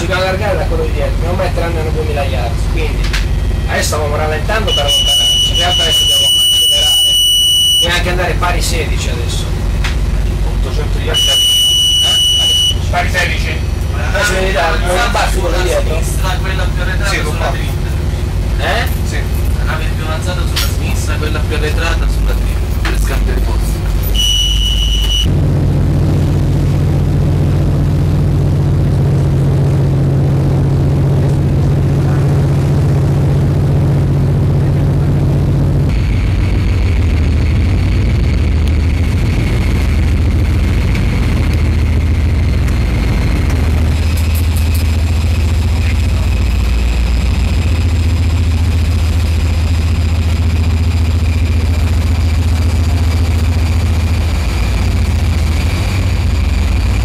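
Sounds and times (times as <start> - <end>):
ship machinery drone: 0.0 - 57.0
steady high whine: 0.0 - 57.0.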